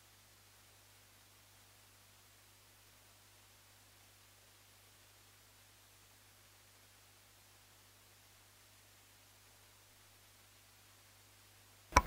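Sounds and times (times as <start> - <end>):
faint low hum with hiss: 0.0 - 12.0.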